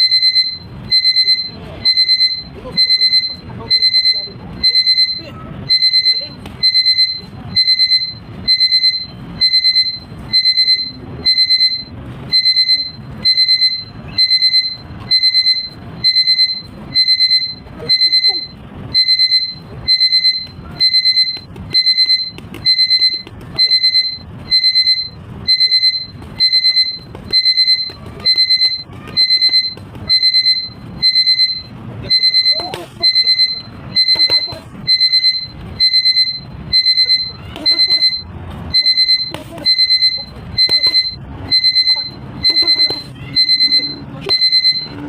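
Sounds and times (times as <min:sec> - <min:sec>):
electronic alarm beeping: 0:00.0 - 0:45.0.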